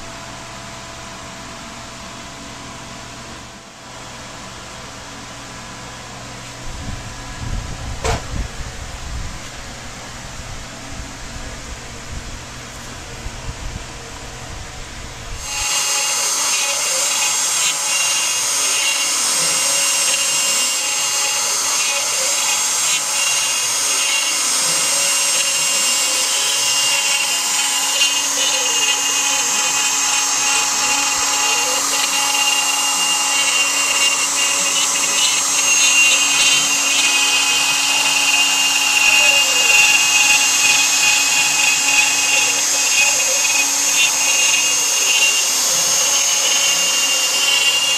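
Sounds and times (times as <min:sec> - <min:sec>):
router spindle high whine: 0:00.0 - 0:47.9.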